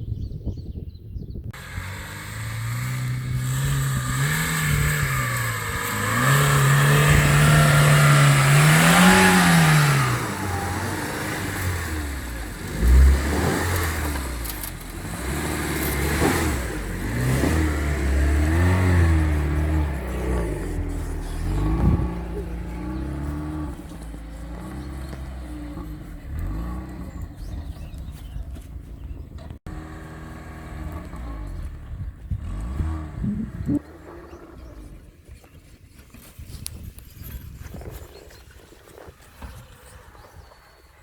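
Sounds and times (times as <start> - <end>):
car engine revving: 1.6 - 35.1.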